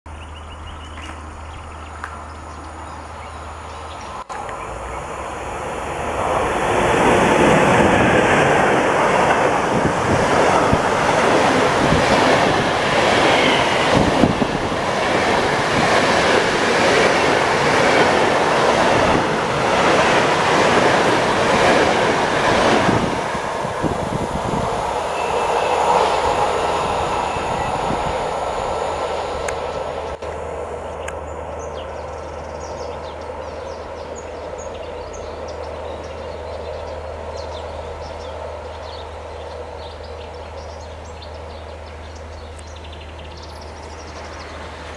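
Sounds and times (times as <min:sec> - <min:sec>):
train wheels rushing on rail: 0:02.0 - 0:44.9.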